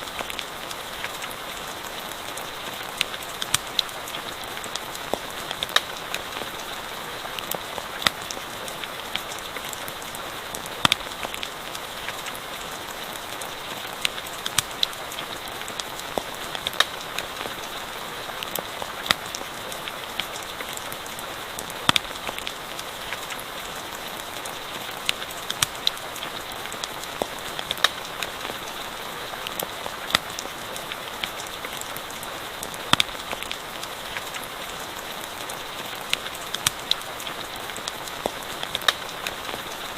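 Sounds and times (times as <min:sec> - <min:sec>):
campfire crackling: 0:00.0 - 0:39.9
rain falling: 0:00.0 - 0:39.9.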